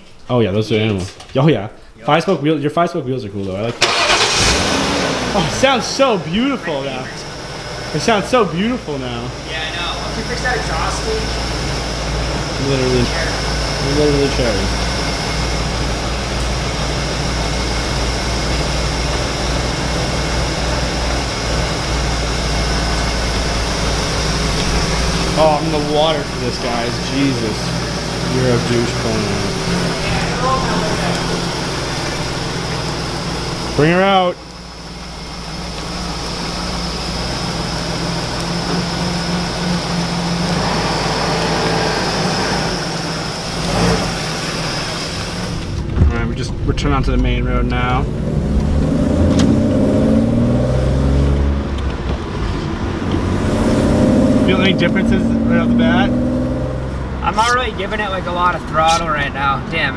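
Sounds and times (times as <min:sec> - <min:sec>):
car engine idling: 0:03.2 - 0:59.9.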